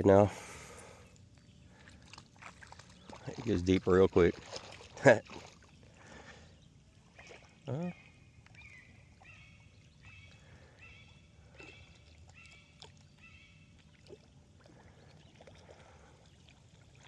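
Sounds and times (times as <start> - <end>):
low rumble of water: 0.0 - 17.0.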